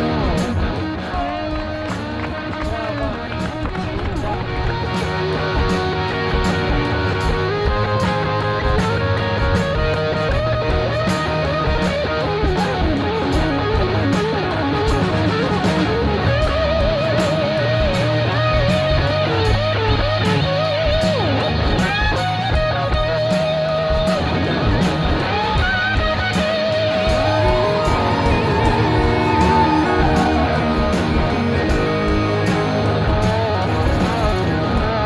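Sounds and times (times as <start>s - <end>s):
steady drum beat: 0.0s - 35.0s
wavering lead guitar: 0.0s - 35.0s.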